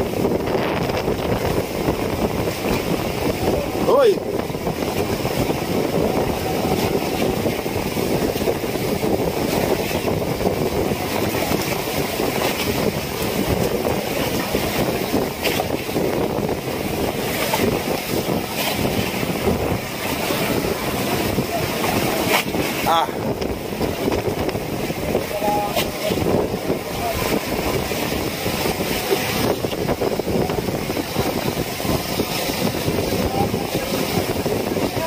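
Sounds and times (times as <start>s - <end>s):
sea washing against boat: 0.0s - 35.0s
wind buffeting microphone: 0.0s - 35.0s.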